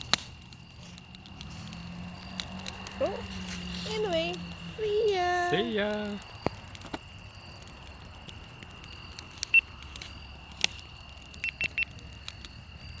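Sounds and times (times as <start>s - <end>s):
campfire crackling: 0.0s - 13.0s
fire popping: 0.0s - 13.0s
insect chirps: 0.0s - 13.0s
insect trill: 0.0s - 13.0s.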